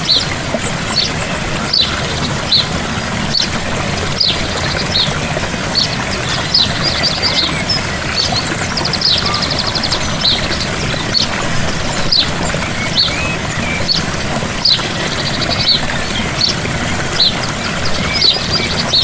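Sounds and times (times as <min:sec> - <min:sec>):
songbirds chirping: 0:00.0 - 0:19.0
waterfall splashing: 0:00.0 - 0:19.0.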